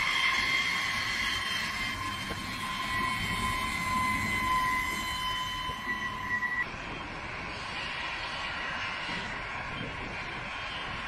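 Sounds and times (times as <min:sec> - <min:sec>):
jet engines whining and rumbling: 0:00.0 - 0:11.0.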